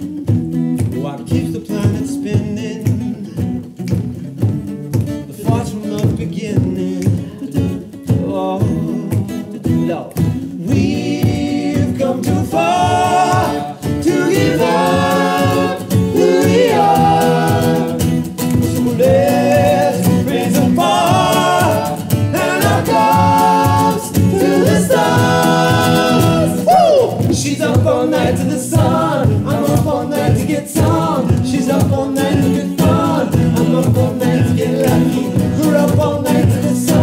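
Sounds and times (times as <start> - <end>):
male vocal harmonies: 0.0 - 3.7, 5.3 - 37.0
deep vocal bass line: 5.4 - 37.0.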